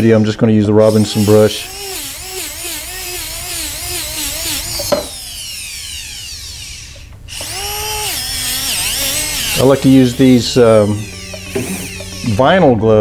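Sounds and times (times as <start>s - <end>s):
dental handpiece whine: 0.8s - 13.0s.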